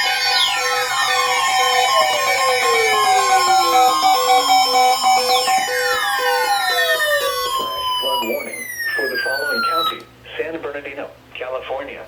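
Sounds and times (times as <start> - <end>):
electronic beeping tones: 0.0 - 10.0
electronic tones sliding downward: 0.0 - 10.0.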